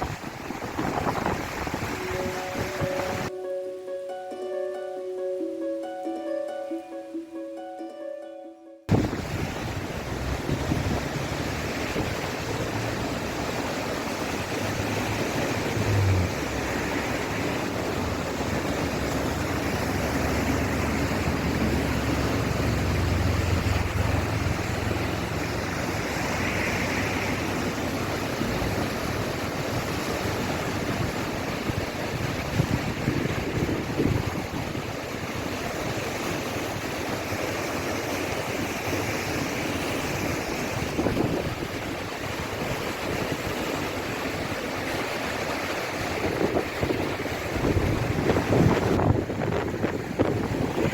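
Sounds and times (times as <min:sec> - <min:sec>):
wind buffeting microphone: 0:00.0 - 0:03.3, 0:08.9 - 0:50.9
floodwater rushing in river: 0:00.0 - 0:03.8, 0:08.9 - 0:50.9.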